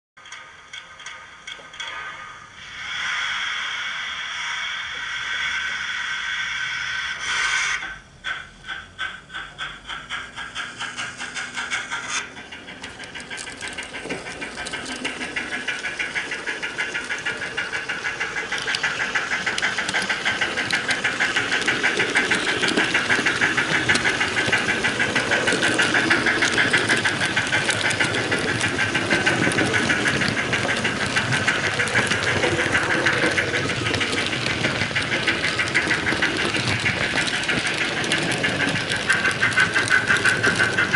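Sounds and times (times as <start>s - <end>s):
steam locomotive chuffing: 0.2s - 40.9s
steam hiss: 1.8s - 40.9s.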